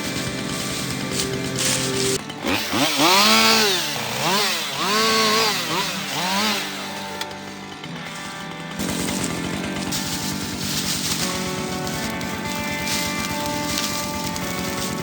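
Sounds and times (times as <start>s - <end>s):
chainsaw revving: 0.0s - 15.0s.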